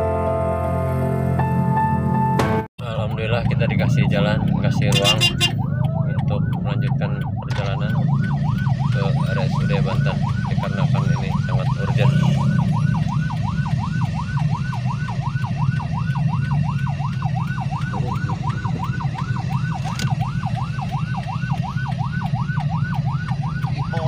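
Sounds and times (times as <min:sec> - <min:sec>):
engine and road rumble: 0:00.0 - 0:24.0
electronic siren yelping: 0:03.1 - 0:24.0.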